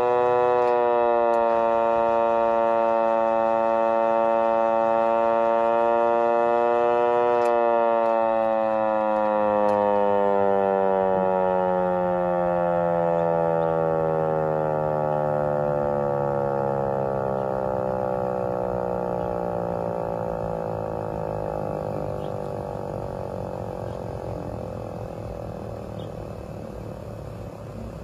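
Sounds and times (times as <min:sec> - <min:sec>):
hand-crank siren winding down: 0:00.0 - 0:28.0.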